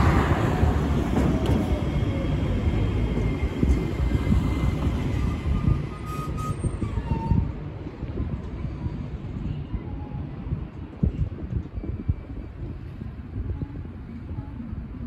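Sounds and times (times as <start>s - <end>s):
tram rolling and braking: 0.0s - 15.0s.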